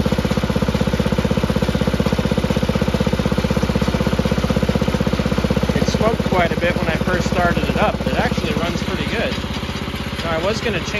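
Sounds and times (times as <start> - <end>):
single-cylinder engine running: 0.0 - 10.9.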